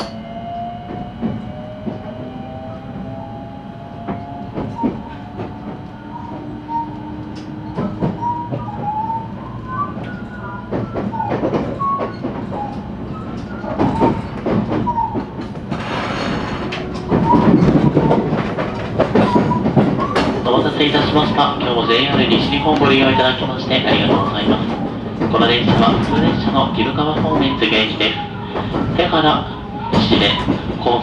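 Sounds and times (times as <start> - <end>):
rail-joint clicks: 0.0 - 0.2, 4.0 - 31.0
train wheels running on rails: 0.0 - 31.0.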